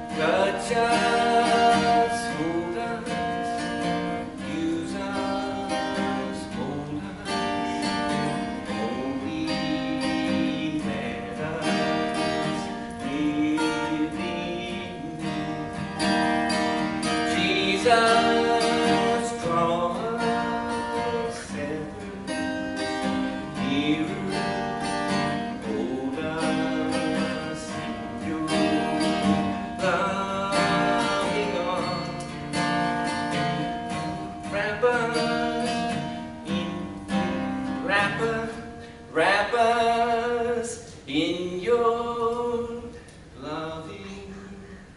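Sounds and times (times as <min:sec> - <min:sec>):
acoustic guitar strumming: 0:00.0 - 0:44.9
person singing: 0:00.0 - 0:44.9.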